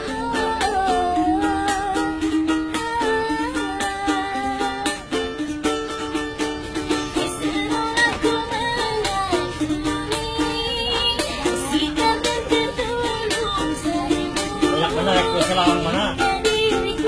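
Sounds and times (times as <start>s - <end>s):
small string instrument strummed: 0.0s - 17.0s
woman singing: 0.0s - 17.0s.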